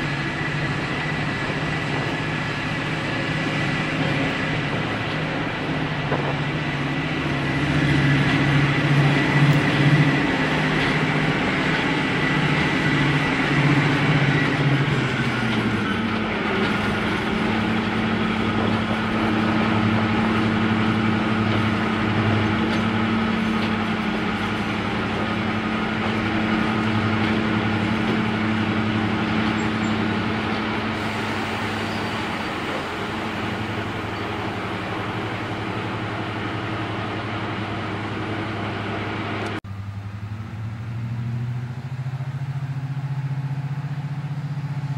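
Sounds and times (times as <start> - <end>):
diesel locomotive engines running: 0.0 - 44.9.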